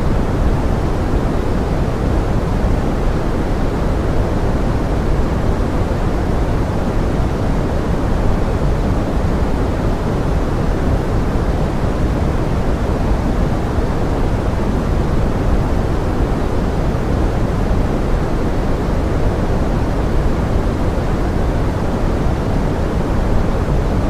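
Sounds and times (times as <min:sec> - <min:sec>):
pink noise: 0:00.0 - 0:24.0.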